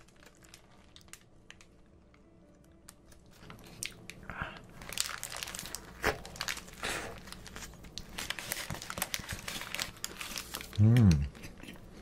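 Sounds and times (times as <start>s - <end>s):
paper wrapper crinkling: 0.0s - 11.9s.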